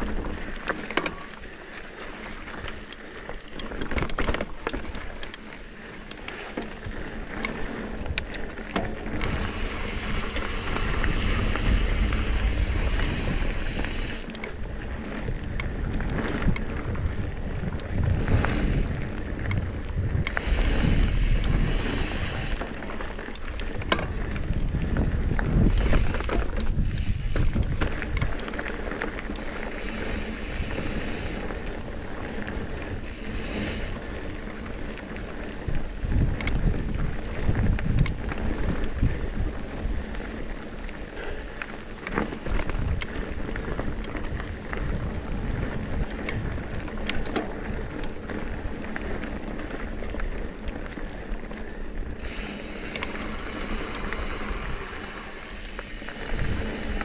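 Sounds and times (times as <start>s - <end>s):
bike clicking and rattling: 0.0s - 57.0s
bike tyres rolling on dirt: 0.0s - 57.0s
wind buffeting microphone: 6.0s - 57.0s.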